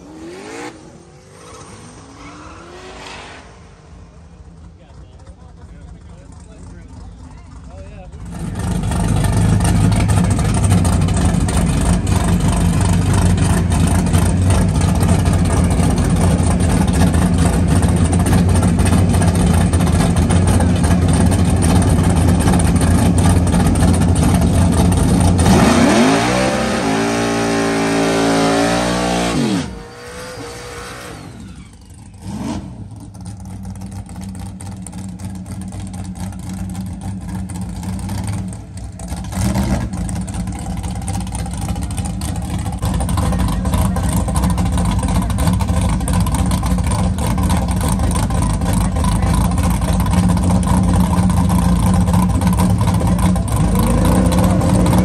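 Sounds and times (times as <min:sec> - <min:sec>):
drag race car engines revving: 0:00.0 - 0:55.0.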